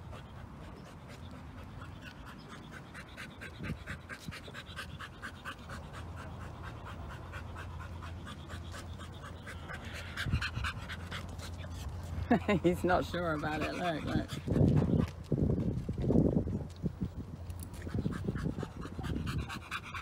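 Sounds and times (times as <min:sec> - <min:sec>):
dog panting rapidly: 0:00.0 - 0:15.9, 0:17.7 - 0:20.0.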